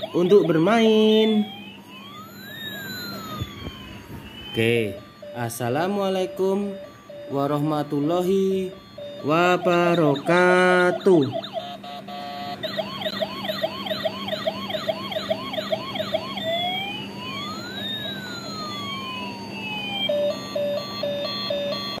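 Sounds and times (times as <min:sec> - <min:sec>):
steady low hum: 0:00.0 - 0:22.0
toy electronic siren: 0:00.0 - 0:22.0.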